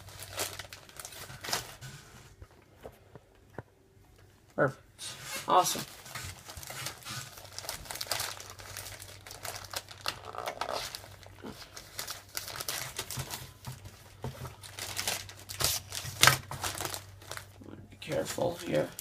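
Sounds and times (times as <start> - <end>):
plastic packaging crinkling: 0.0 - 2.6, 5.4 - 19.0.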